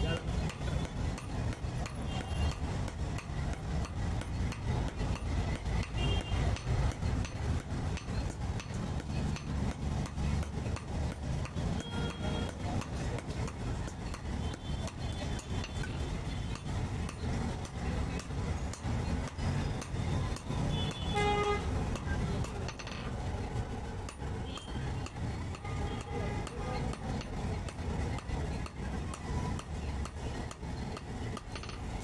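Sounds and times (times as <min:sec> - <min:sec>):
hammer striking metal: 0:00.0 - 0:32.0.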